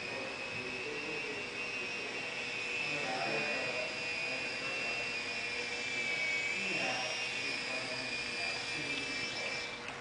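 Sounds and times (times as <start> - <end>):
helicopter motor whine: 0.0 - 10.0
rotors humming: 0.0 - 10.0.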